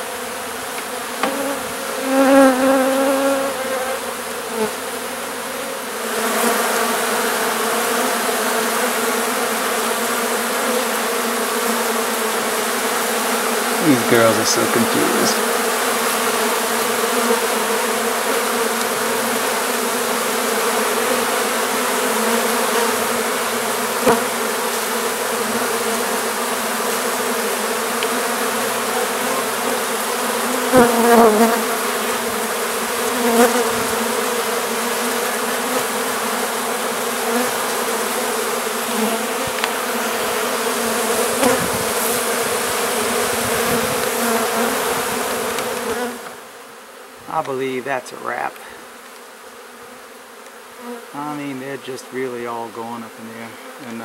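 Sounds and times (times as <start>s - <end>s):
honey bee colony buzzing: 0.0s - 54.0s.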